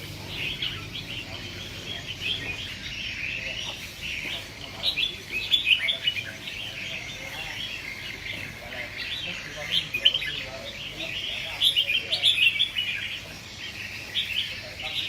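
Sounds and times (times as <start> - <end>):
bulbuls chirping and warbling: 0.0 - 15.0.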